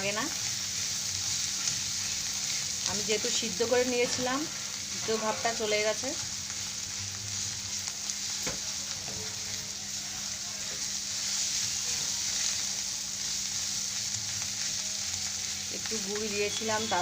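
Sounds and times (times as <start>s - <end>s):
chutney sizzling in a pan: 0.0s - 17.0s.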